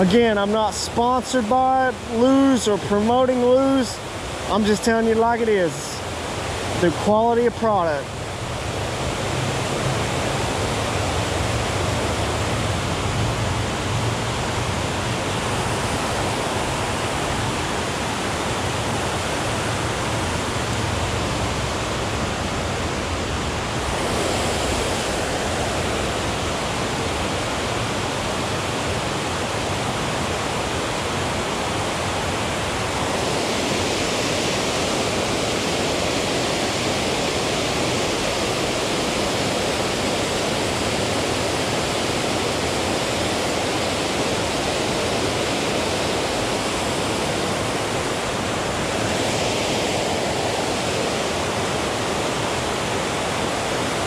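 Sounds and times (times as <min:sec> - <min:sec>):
water rushing over dam spillway: 0:00.0 - 0:54.0.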